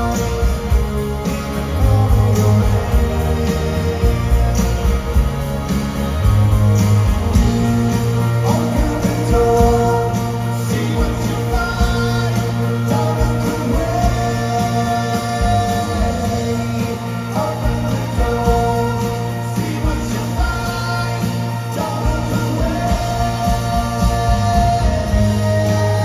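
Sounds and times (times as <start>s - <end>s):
person singing: 0.0s - 5.4s, 7.5s - 26.0s
live rock band playing: 0.0s - 26.0s.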